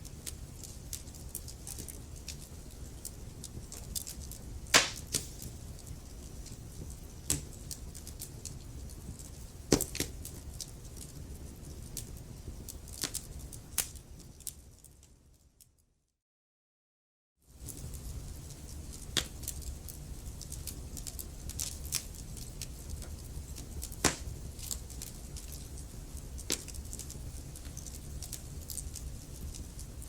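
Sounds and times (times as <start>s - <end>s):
fire crackling and popping: 0.0s - 15.2s, 17.5s - 30.0s
low rumble of flames: 0.0s - 15.6s, 17.5s - 30.0s.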